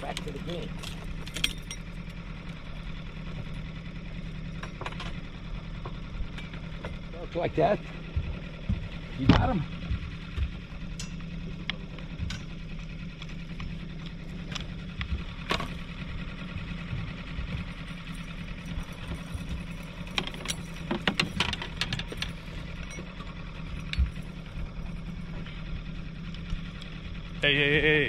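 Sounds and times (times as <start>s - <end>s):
outboard motor humming: 0.0s - 28.0s.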